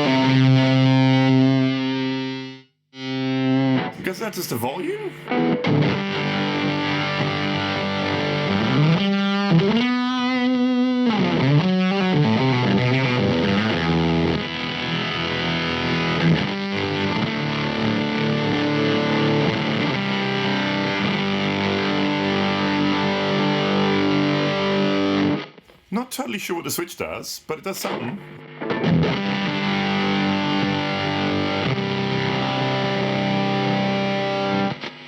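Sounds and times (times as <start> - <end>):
fuzzy distorted electric guitar: 0.0 - 4.6, 5.2 - 25.7, 27.9 - 35.0.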